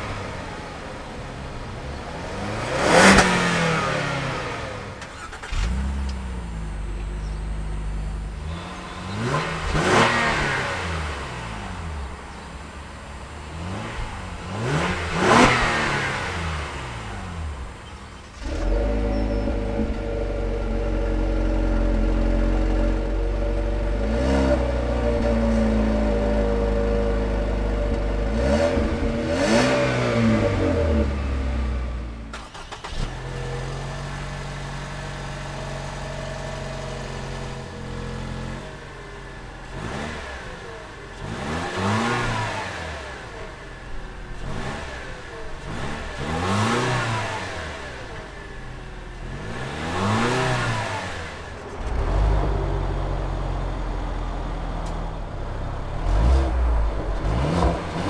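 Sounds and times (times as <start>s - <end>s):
car exhaust idling and revving: 0.0s - 58.0s.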